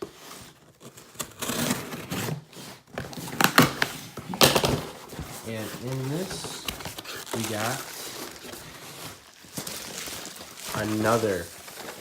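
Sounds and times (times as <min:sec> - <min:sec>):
cardboard scraping and rustling: 0:00.0 - 0:12.0.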